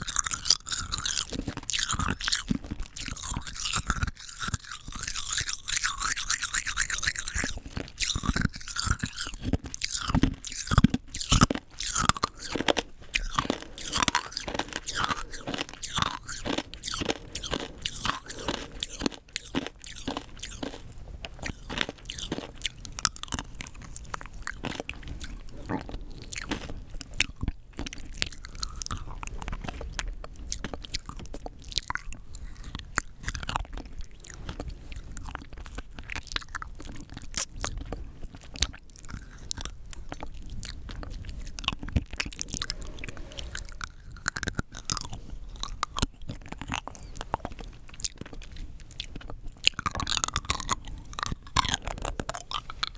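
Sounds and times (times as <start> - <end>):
hard candy crunching: 0.0 - 52.9.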